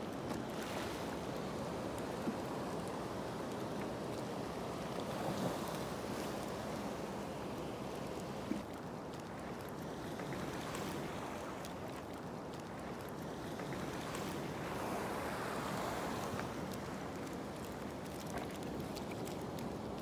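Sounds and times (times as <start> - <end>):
sea water washing: 0.0 - 20.0
wind: 0.0 - 20.0.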